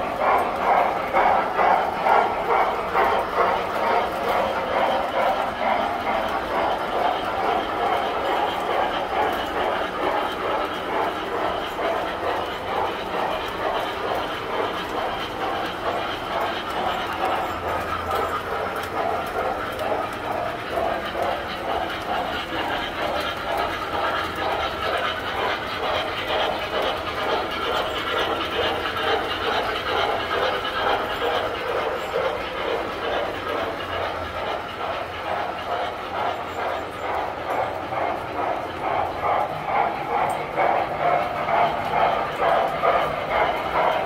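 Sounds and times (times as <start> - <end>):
model train rolling clatter: 0.0 - 44.0.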